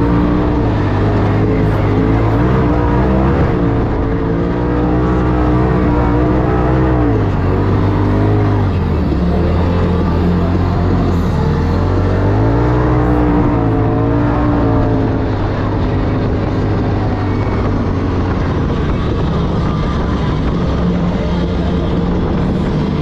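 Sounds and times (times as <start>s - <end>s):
drivetrain noise: 0.0s - 23.0s
engine running hard under load: 0.0s - 23.0s
wind: 0.0s - 23.0s.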